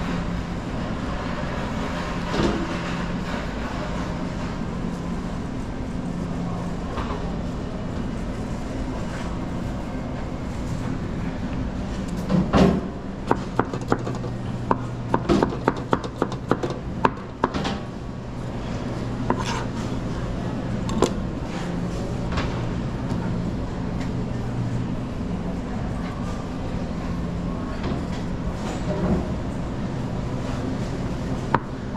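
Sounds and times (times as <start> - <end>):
machine hum: 0.0 - 31.9.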